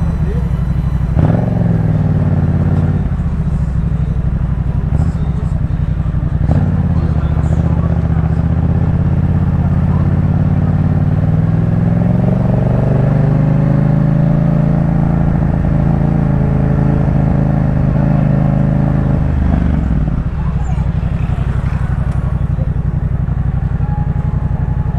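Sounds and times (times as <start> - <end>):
motorcycle engine while riding: 0.0 - 24.9.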